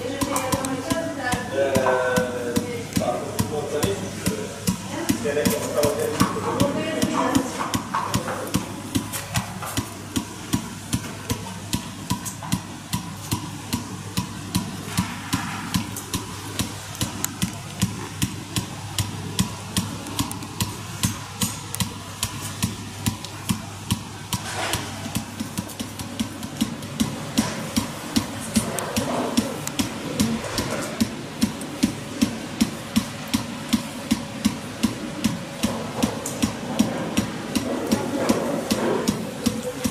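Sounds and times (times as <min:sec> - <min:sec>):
steady low hum: 0:00.0 - 0:39.9
therapy device clicking: 0:00.0 - 0:39.9.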